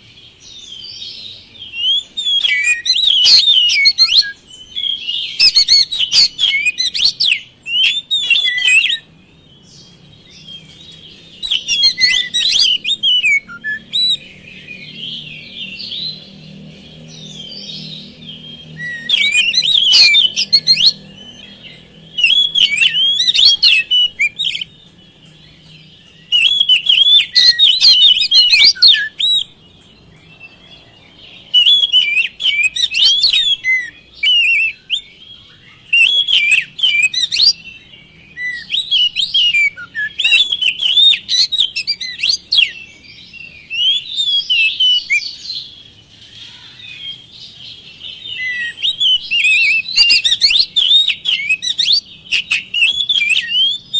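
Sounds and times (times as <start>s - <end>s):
magpie-robin singing: 0.0s - 53.9s.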